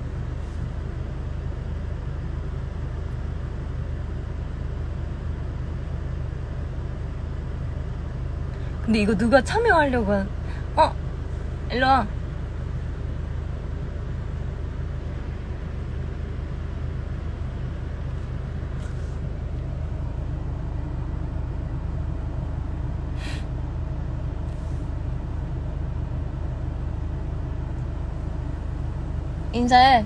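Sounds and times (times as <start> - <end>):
van engine idling: 0.0 - 30.0.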